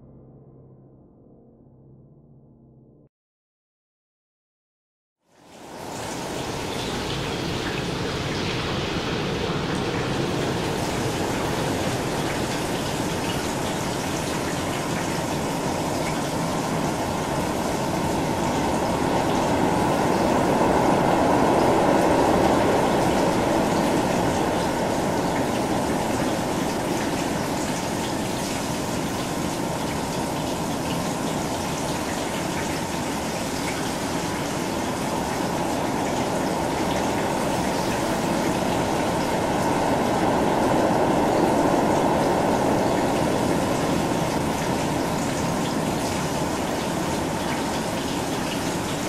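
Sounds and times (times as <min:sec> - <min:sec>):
dense hiss of rain: 0:05.3 - 0:49.0.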